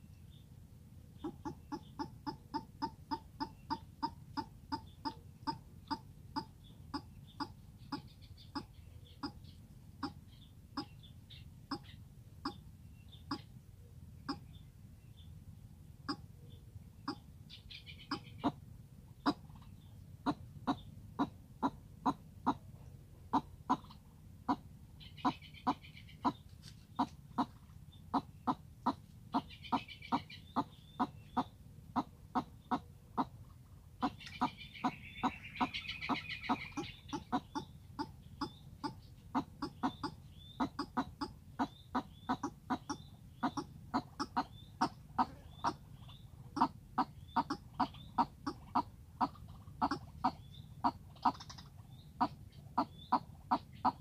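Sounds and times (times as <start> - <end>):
bird chattering: 1.1 - 13.6, 14.2 - 14.7, 16.0 - 18.6, 19.2 - 22.7, 23.3 - 54.0
bird clucking calls: 1.1 - 14.7, 16.0 - 54.0.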